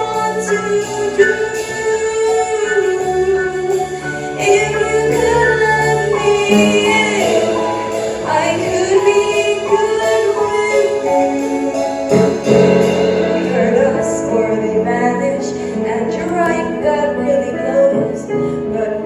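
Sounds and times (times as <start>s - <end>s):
instrumental backing music: 0.0s - 19.0s
person singing lead vocal: 0.0s - 19.0s.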